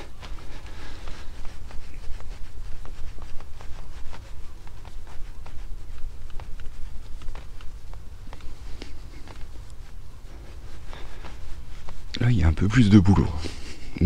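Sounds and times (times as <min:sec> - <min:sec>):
cloth scrubbing panel: 0:00.0 - 0:14.0.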